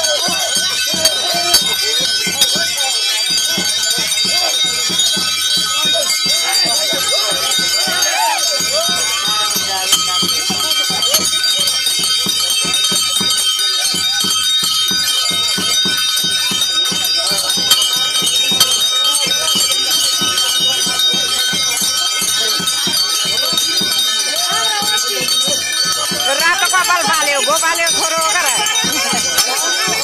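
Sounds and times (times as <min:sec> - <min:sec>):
bells jingling and ringing: 0:00.0 - 0:30.0
low drum beat: 0:00.0 - 0:30.0
voices: 0:00.0 - 0:30.0.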